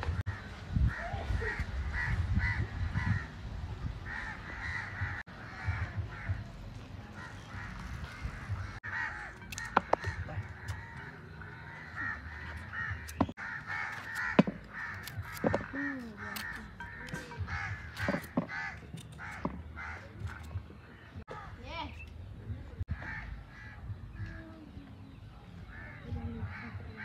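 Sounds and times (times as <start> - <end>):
birds calling: 0.0 - 27.0.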